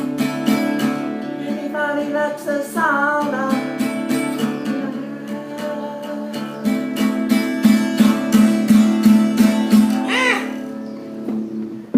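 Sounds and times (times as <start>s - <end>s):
acoustic guitar strumming: 0.0s - 11.9s.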